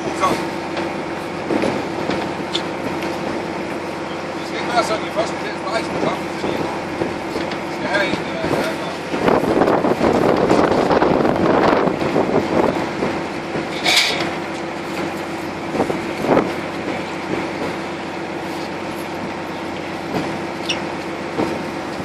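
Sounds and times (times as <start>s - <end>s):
boat engine running: 0.0s - 22.0s
water noise: 0.0s - 22.0s
wind: 0.0s - 22.0s.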